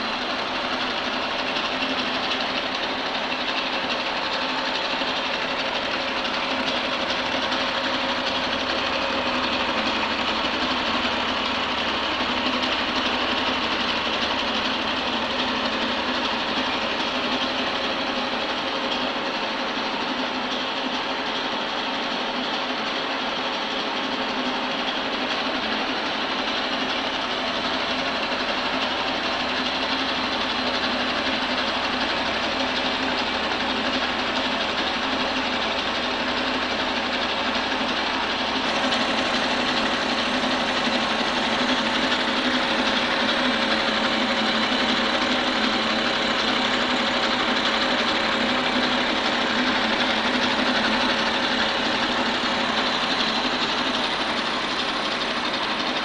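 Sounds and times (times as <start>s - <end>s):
milling spindle steady tones: 0.0s - 56.0s.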